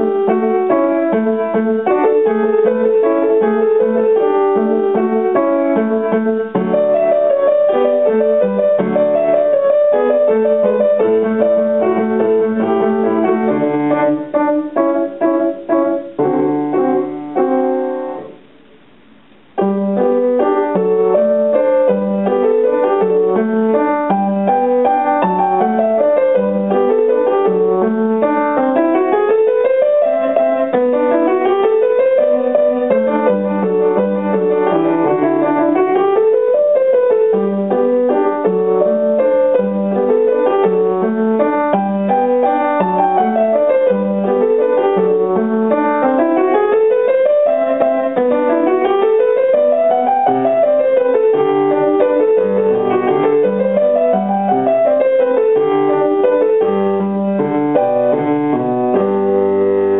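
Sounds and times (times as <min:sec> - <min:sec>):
upright piano playing: 0:00.0 - 0:59.9.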